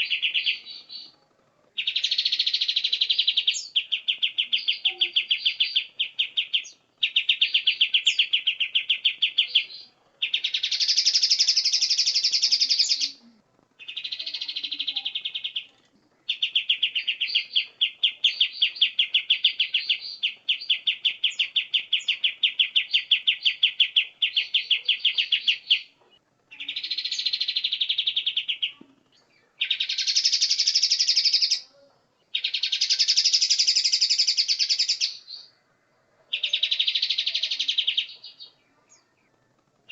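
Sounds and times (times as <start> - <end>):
songbird chattering calls: 0.0 - 1.2, 1.8 - 39.9
higher dense bird phrases: 0.0 - 39.9.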